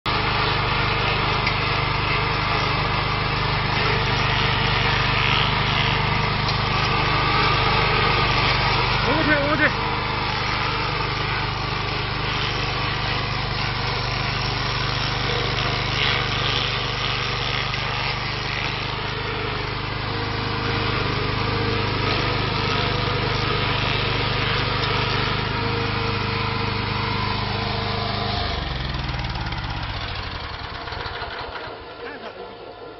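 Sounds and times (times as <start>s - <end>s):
cutting wheel grinding stump: 0.1s - 32.9s
stump grinder engine running: 0.1s - 32.9s.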